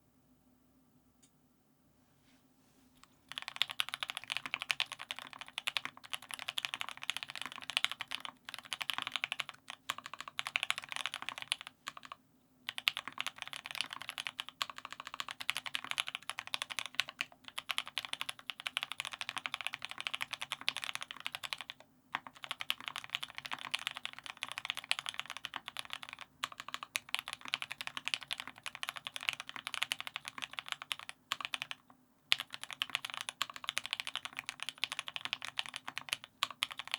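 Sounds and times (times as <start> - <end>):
mechanical keyboard typing clacks: 3.3 - 36.9.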